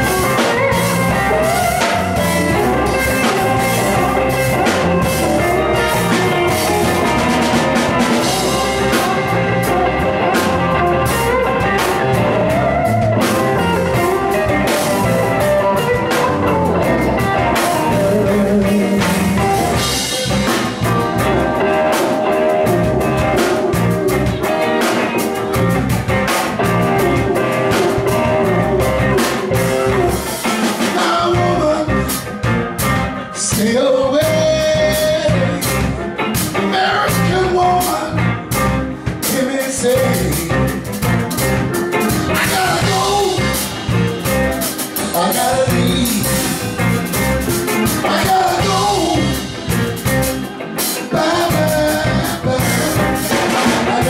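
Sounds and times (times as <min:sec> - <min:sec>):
bass guitar: 0:00.0 - 0:54.0
bending lead guitar line: 0:00.0 - 0:54.0
drums: 0:00.0 - 0:54.0
electric guitars: 0:00.0 - 0:54.0
keyboard: 0:00.0 - 0:54.0.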